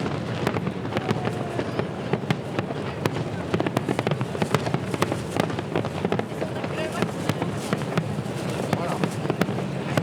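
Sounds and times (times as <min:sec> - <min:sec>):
fireworks cracking and banging: 0:00.0 - 0:10.0.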